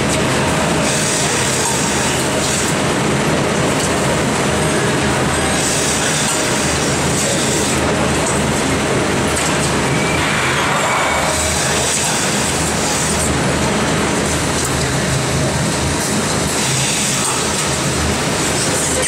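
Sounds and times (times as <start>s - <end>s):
milking machine rumble and hiss: 0.0s - 19.0s.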